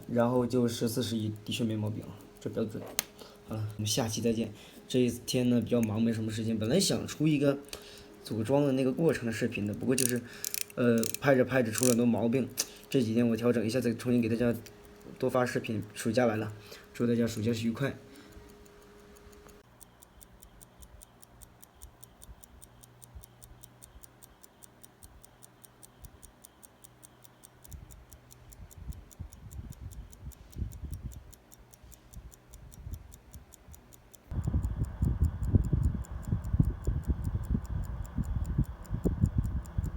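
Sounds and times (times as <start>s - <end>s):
mechanical stopwatch ticking: 0.0s - 39.9s.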